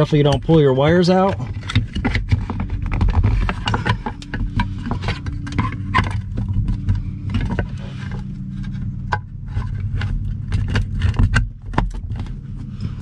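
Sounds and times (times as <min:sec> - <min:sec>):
steady low hum: 0:00.0 - 0:13.0
plastic clicks and scrapes: 0:01.3 - 0:13.0.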